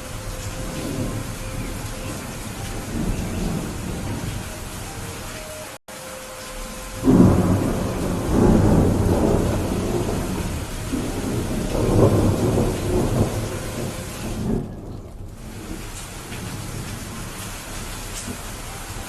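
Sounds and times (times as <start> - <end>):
thunder rumbling: 0.0 - 5.3, 6.5 - 19.0
steady rain: 0.0 - 19.0.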